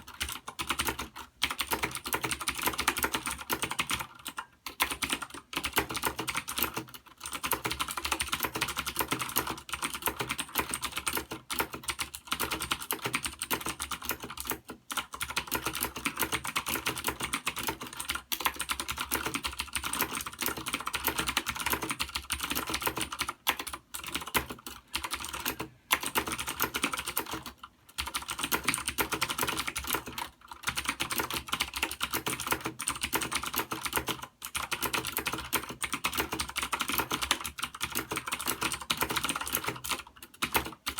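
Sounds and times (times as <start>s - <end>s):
fast typing on clicky keyboard: 0.0s - 40.9s.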